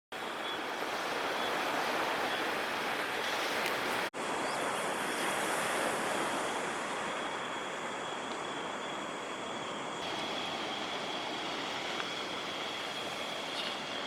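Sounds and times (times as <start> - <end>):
breaking ocean waves: 0.2 - 14.0.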